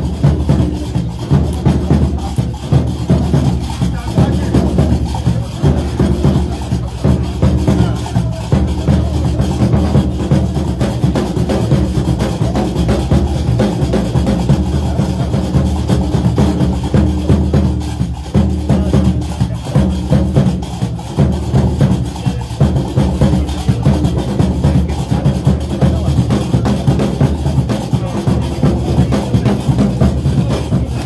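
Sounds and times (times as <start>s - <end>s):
loud drum and percussion music: 0.0s - 31.0s.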